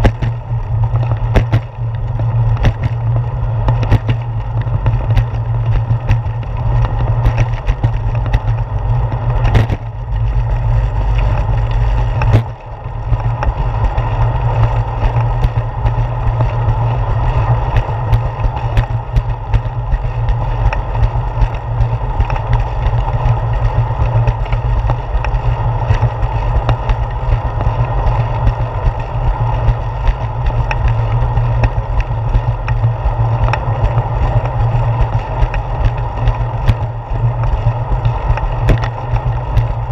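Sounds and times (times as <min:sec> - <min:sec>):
wind and ride rumble: 0:00.0 - 0:39.9.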